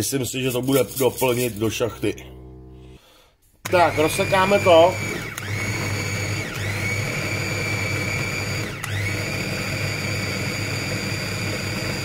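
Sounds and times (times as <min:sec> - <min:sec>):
food chopper motor whining: 0:00.5 - 0:12.0.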